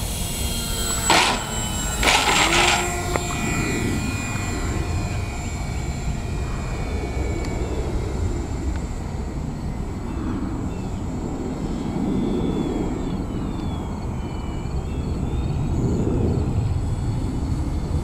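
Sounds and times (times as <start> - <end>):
model plane motor whine: 0.0 - 18.0
wind rumble on microphone: 2.0 - 18.0.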